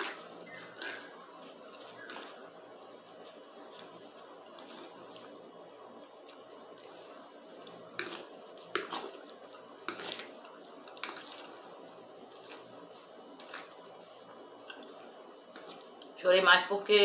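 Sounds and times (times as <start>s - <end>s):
chewing: 0.0s - 5.4s, 6.2s - 16.1s.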